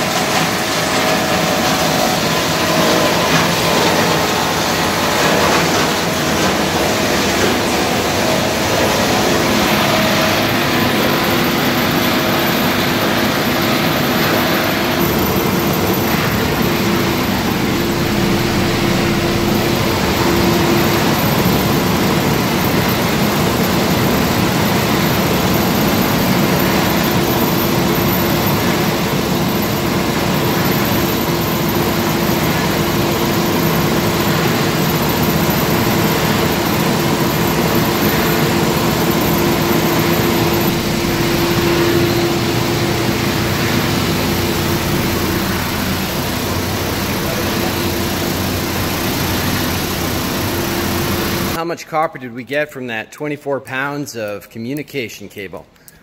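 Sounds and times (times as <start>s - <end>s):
wire granulator machine running: 0.0s - 51.6s.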